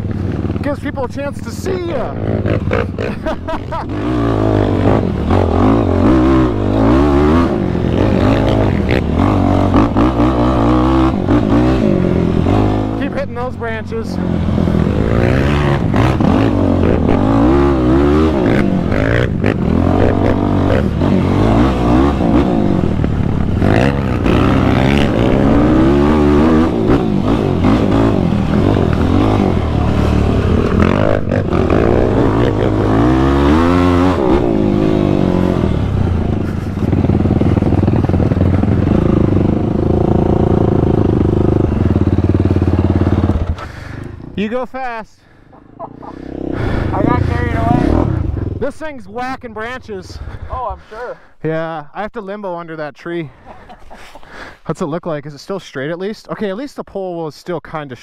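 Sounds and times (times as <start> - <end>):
quad engine revving: 0.0 - 44.5, 45.4 - 48.8.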